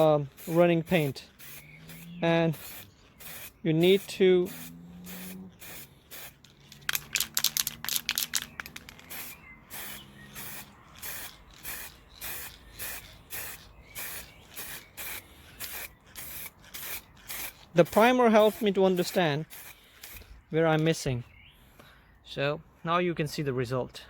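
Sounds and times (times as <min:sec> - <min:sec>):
spray can spraying in bursts: 0:00.0 - 0:20.3.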